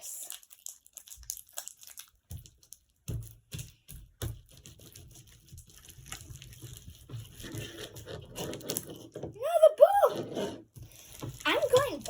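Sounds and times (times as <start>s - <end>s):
slime squelching by hand: 0.0s - 12.0s.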